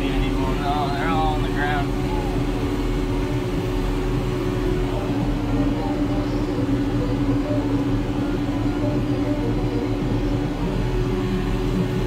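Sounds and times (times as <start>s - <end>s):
sprayer engine droning: 0.0s - 12.0s.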